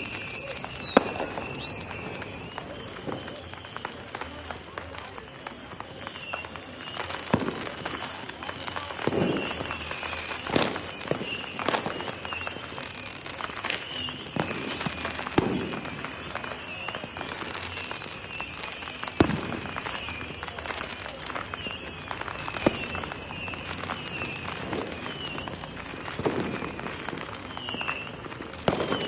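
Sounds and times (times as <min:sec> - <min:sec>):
distant fireworks pops: 0:00.0 - 0:29.0
fireworks bangs and crackles: 0:00.0 - 0:29.0.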